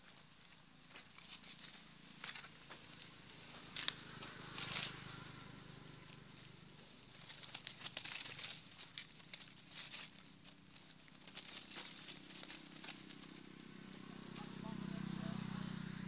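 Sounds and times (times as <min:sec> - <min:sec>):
dry leaves rustling: 0:00.0 - 0:16.0.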